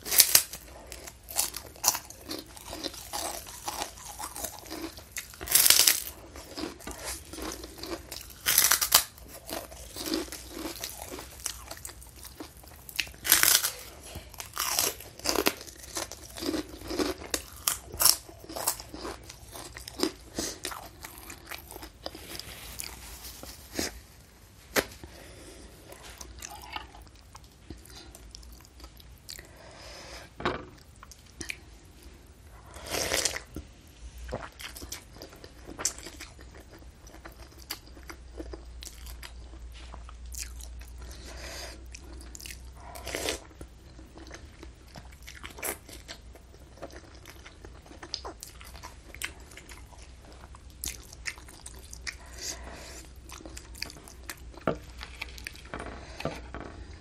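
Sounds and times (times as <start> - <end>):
crunchy chewing close up: 0.0 - 24.0, 34.3 - 57.0.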